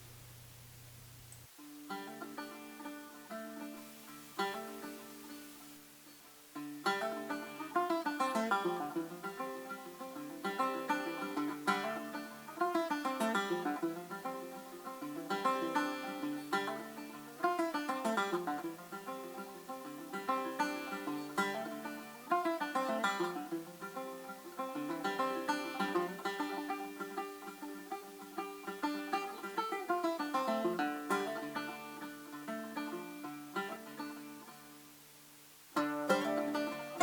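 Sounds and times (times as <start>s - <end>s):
banjo bluegrass tune: 1.6s - 37.0s.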